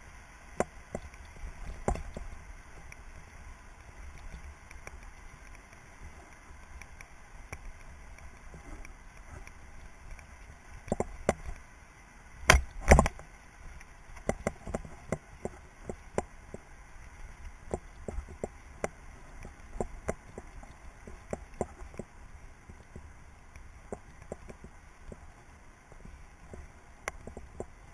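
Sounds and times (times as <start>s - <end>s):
mountain bike rolling on dirt: 0.0s - 11.8s, 12.4s - 27.9s.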